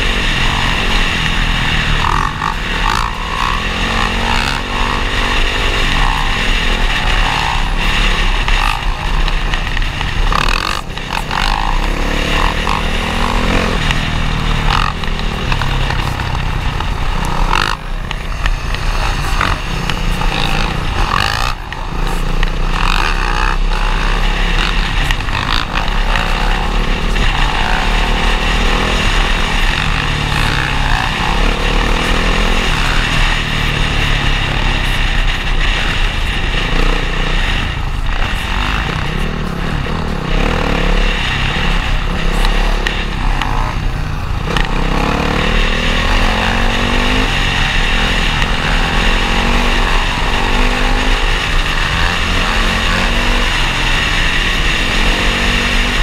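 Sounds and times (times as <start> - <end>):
dirt bike engines revving: 0.0 - 56.0
wind noise on microphone: 0.0 - 56.0.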